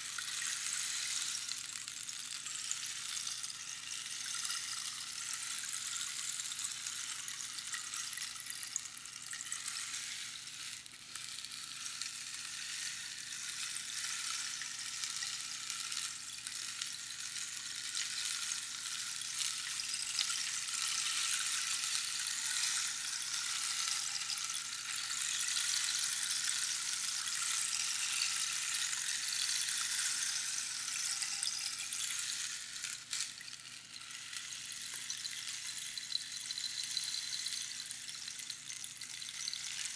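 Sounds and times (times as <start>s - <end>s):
rainstick hissing patter: 0.0s - 39.9s.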